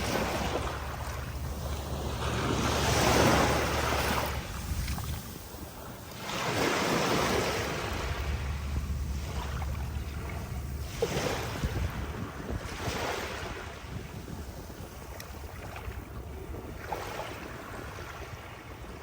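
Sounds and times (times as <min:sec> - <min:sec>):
sea waves breaking on beach: 0:00.0 - 0:19.0
wind rumble on microphone: 0:00.0 - 0:19.0.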